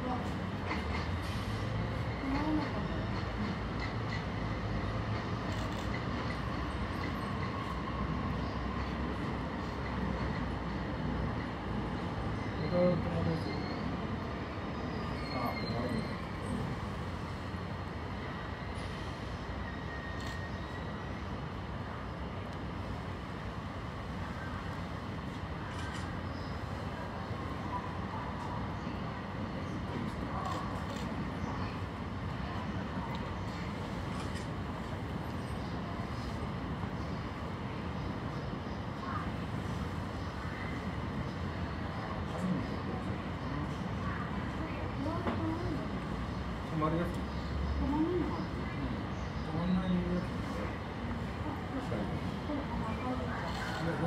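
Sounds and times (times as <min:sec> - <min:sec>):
distant city and railway traffic: 0:00.0 - 0:54.0
distant trains rumbling: 0:00.0 - 0:54.0.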